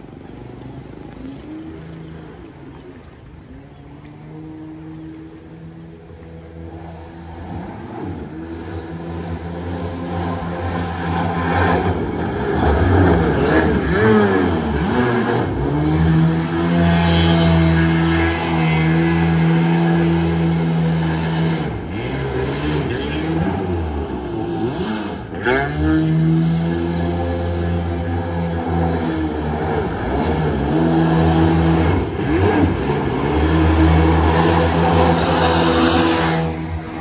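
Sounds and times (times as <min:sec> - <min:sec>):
jet boat engine running: 0:00.0 - 0:37.0.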